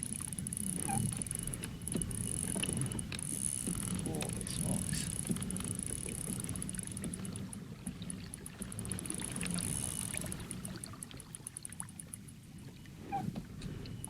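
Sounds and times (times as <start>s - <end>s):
fishing reel clicking: 0.0s - 12.3s
water sloshing against hull: 0.0s - 14.0s.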